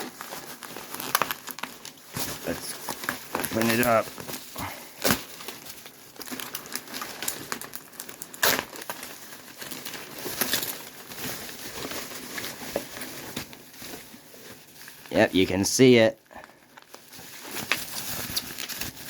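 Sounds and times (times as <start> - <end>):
bubble wrap snapping: 0.0 - 15.3, 16.4 - 19.0
packaging crinkling: 0.0 - 19.0.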